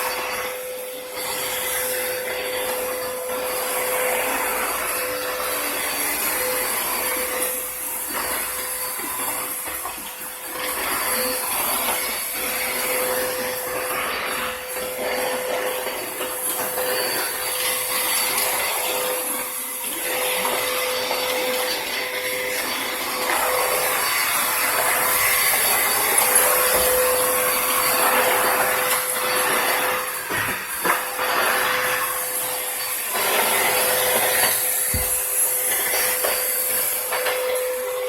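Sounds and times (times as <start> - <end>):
vacuum cleaner running: 0.0 - 38.0.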